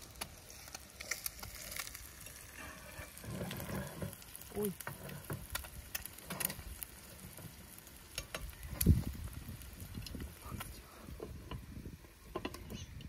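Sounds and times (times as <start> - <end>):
eggs sizzling with crackles: 0.0 - 13.0.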